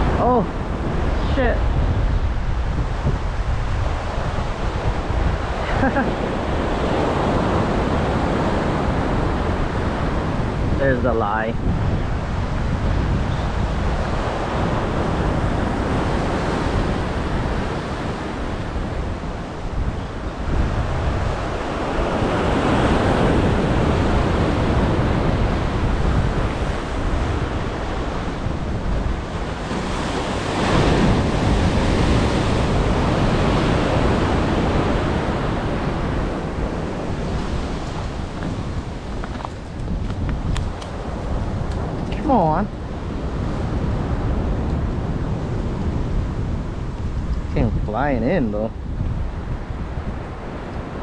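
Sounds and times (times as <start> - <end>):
surf washing onto rocky shore: 0.0 - 51.0
wind buffeting microphone: 0.0 - 51.0.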